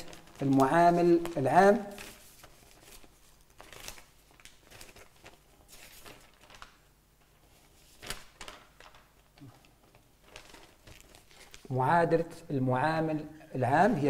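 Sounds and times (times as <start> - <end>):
paper rustling: 0.0 - 11.7
paper crinkle: 0.0 - 11.8.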